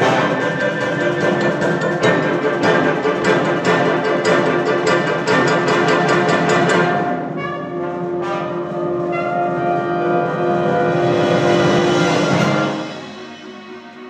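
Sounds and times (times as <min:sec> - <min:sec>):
wind band playing: 0:00.0 - 0:14.0.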